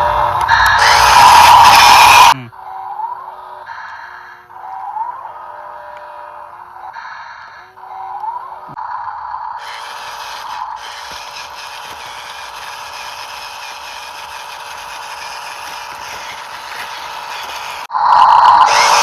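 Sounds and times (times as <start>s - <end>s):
toy gear motors whirring: 0.0s - 19.0s.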